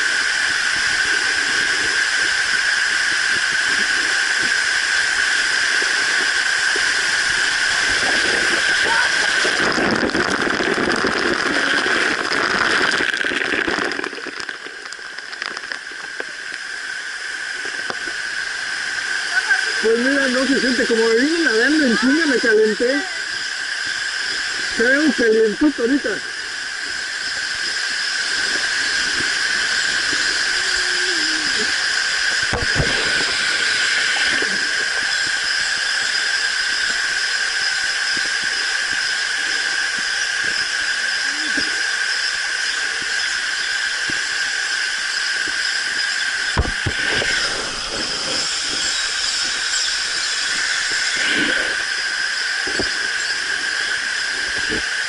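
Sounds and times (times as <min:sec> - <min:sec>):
waterfall rushing: 0:00.0 - 0:23.8, 0:28.1 - 0:42.5, 0:46.4 - 0:55.0.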